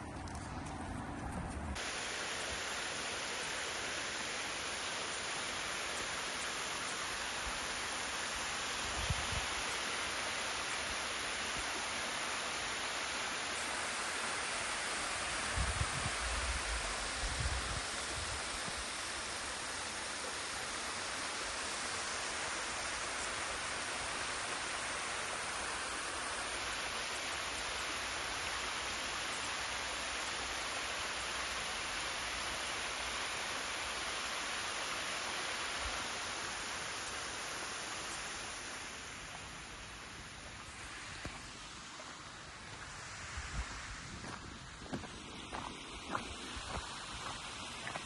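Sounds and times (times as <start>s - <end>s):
waterfall rushing and splashing: 1.8s - 48.0s.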